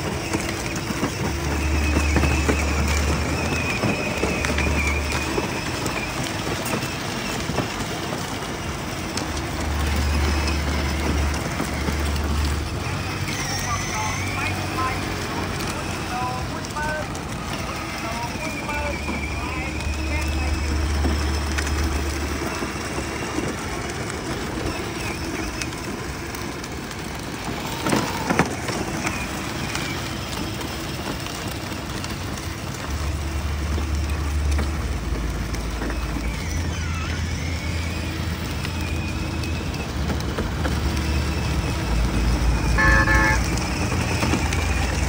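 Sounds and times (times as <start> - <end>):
plastic wheels on concrete: 0.0 - 45.0
toy car electric motor: 0.0 - 45.0
traffic noise: 0.0 - 45.0.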